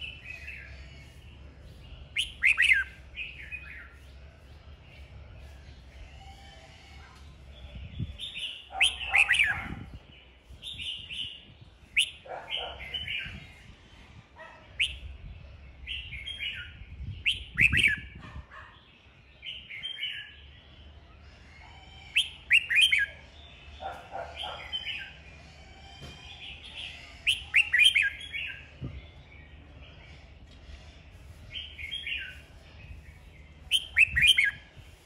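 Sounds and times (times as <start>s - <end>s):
bird singing chirping phrases: 0.0s - 35.0s.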